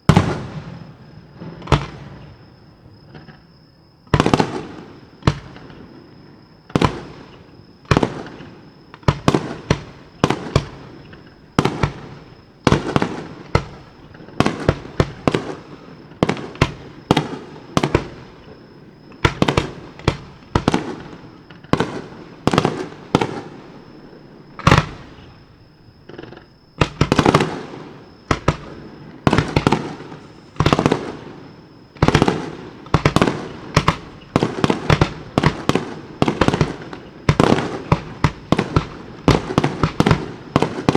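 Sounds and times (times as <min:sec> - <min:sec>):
firework shells booming: 0:00.0 - 0:40.9.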